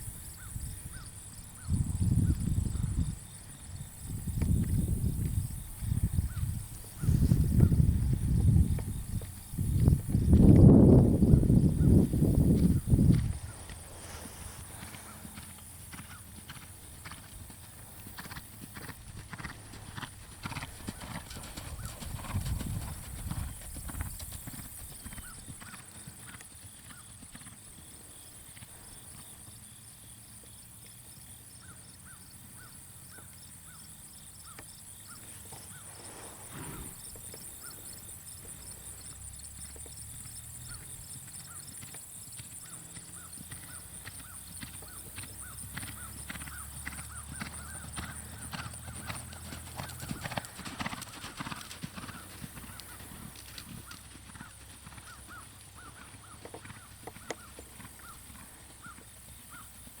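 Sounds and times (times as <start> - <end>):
horse hooves clip-clopping: 4.0 - 31.4, 34.4 - 60.0.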